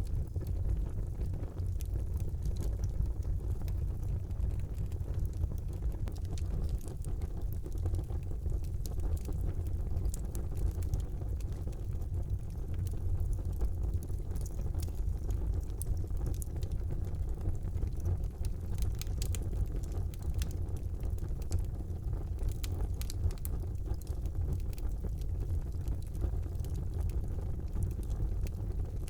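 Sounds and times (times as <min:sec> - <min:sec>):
fire flames rumbling: 0:00.0 - 0:29.0
wood fire crackling and popping: 0:00.0 - 0:29.0.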